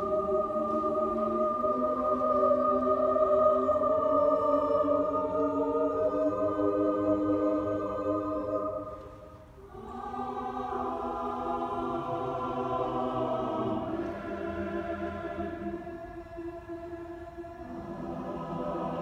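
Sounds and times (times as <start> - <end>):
church choir singing chords: 0.0 - 19.0.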